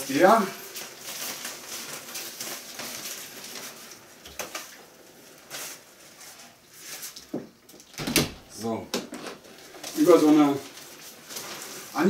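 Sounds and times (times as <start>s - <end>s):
fabric rustling against glass door: 0.0s - 12.0s.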